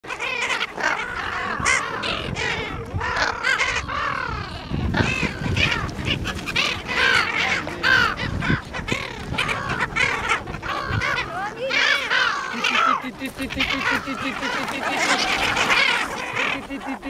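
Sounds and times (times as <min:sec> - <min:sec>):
gulls squawking: 0:00.0 - 0:17.0.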